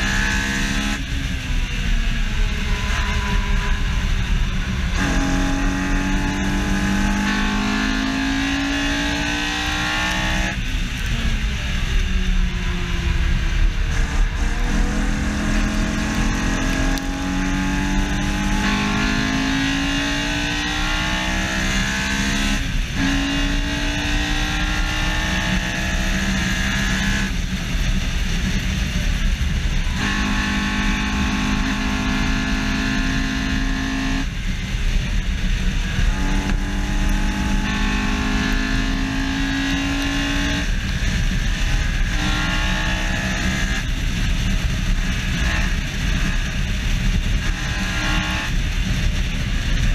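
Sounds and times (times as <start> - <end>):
car engine accelerating hard: 0.0 - 49.9
road rumble: 0.0 - 49.9
wind noise: 0.0 - 49.9.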